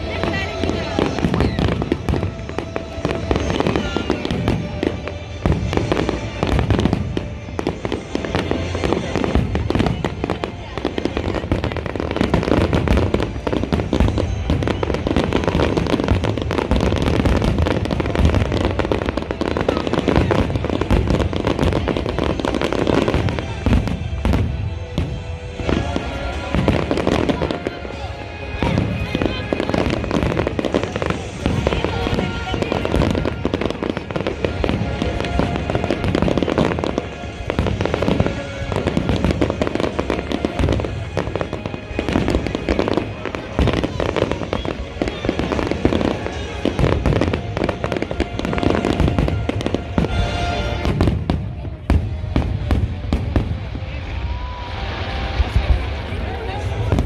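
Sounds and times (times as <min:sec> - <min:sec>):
background music: 0:00.0 - 0:57.0
fireworks bangs and crackles: 0:00.0 - 0:57.0.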